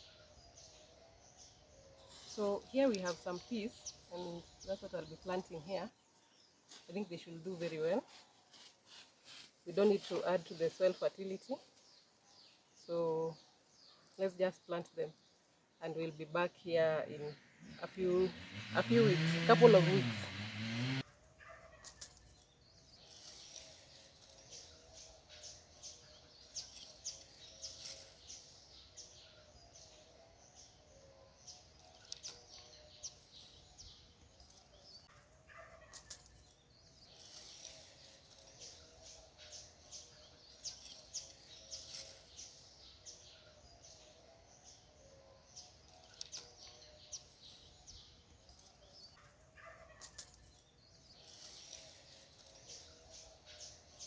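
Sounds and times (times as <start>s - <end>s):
bird chirps: 0.0s - 6.6s, 10.0s - 54.0s.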